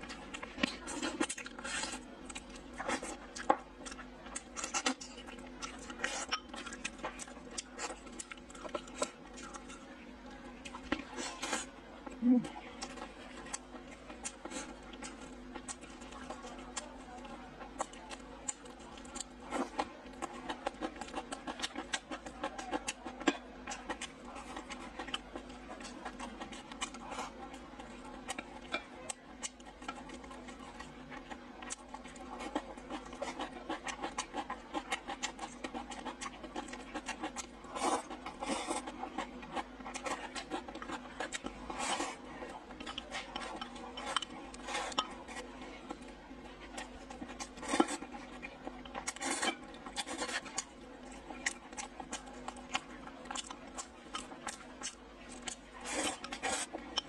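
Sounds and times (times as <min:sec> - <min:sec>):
person chewing: 0:00.0 - 0:09.8, 0:10.6 - 0:16.9, 0:17.8 - 0:57.0.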